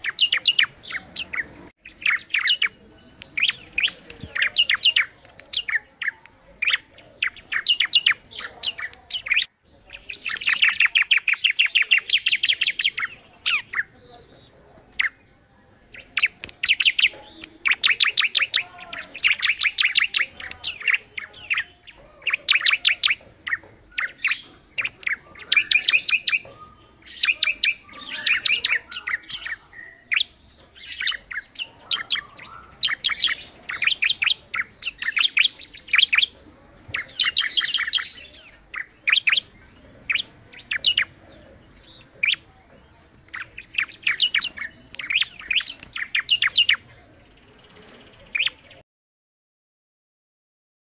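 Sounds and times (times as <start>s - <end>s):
bird singing high chirps: 0.0s - 48.8s.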